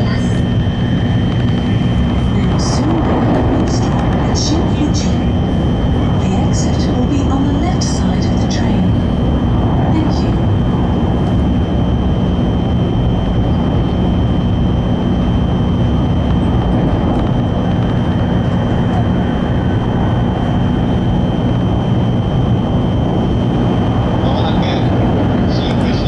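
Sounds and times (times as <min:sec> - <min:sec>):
faint high whine: 0:00.0 - 0:26.0
train running rumble: 0:00.0 - 0:26.0.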